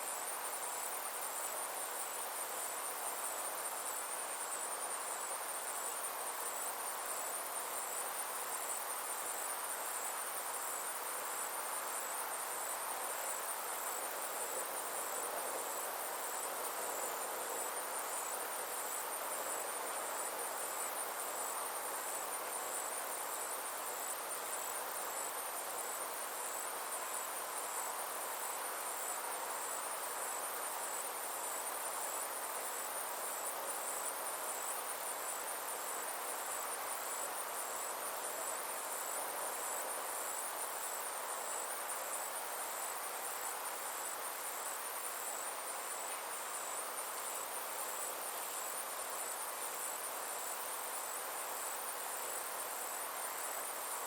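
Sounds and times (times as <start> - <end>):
insects trilling: 0.0 - 54.0
soft even hiss: 0.0 - 54.0.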